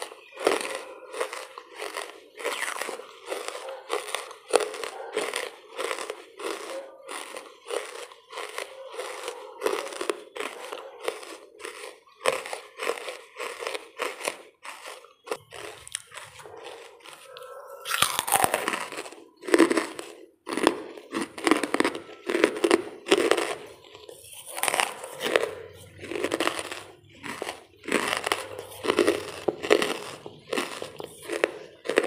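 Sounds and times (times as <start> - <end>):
charcoal being chewed: 0.0 - 32.0.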